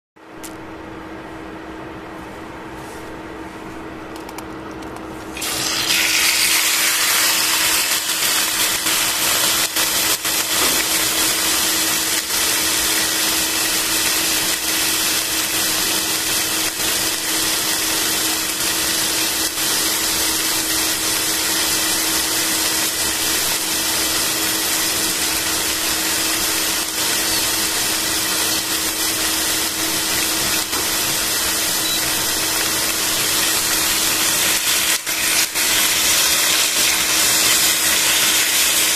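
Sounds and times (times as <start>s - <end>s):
chicken sizzling in a pan: 5.3s - 38.9s.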